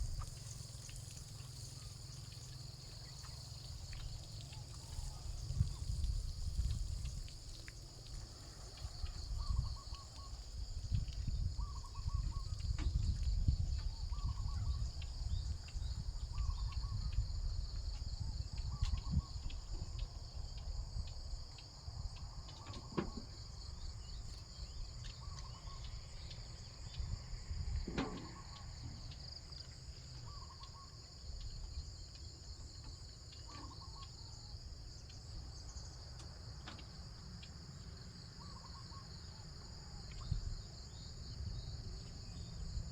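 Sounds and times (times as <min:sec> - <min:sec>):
crickets and insects chirping: 0:00.0 - 0:42.9.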